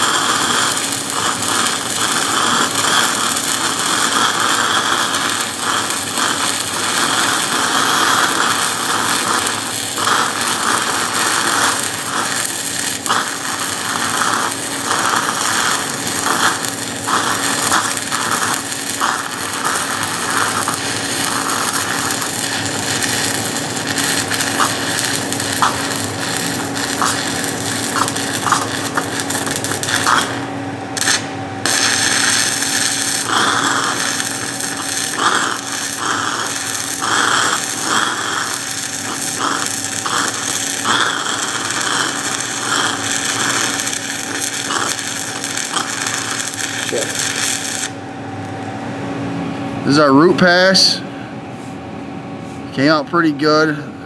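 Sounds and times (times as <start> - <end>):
crackling welding arc: 0.0 - 48.0.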